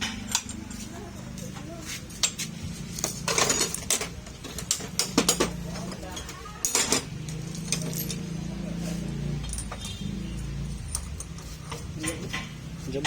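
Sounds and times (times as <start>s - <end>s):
metal tools clinking and knocking: 0.0s - 13.0s.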